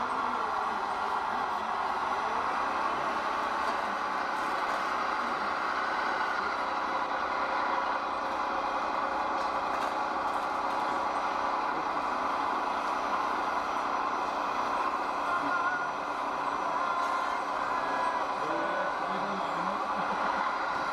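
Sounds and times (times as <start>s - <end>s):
model truck engine running: 0.0s - 20.9s.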